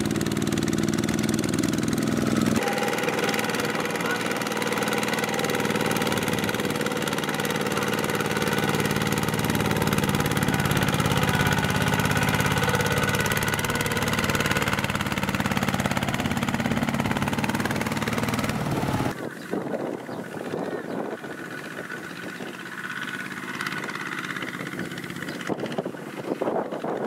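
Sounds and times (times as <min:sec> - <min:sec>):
diesel engine puttering: 0:00.0 - 0:27.0.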